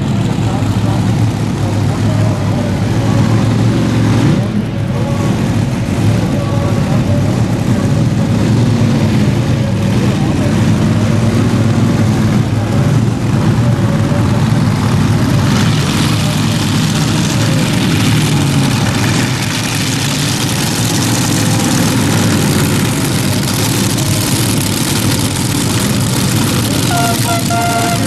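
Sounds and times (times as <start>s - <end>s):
tractor engine running rough: 0.0s - 28.0s.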